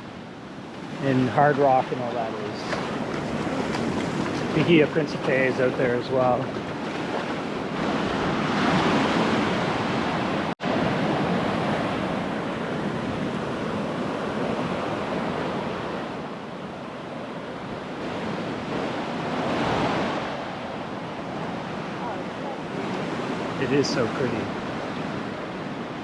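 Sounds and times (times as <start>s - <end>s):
ocean waves washing onto beach: 0.0s - 26.0s.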